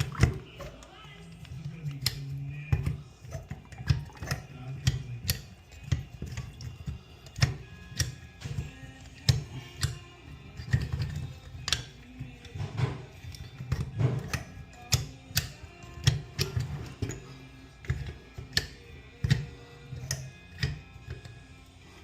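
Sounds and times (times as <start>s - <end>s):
sharp clicks and knocks: 0.0s - 21.4s
faint background music: 0.0s - 22.0s.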